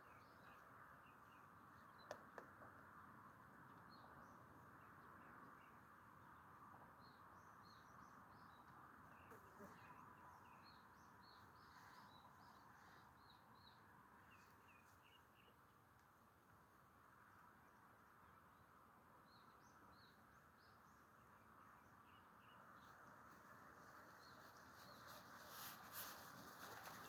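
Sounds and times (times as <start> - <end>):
small birds chirping: 0.0 - 16.2, 17.2 - 27.0.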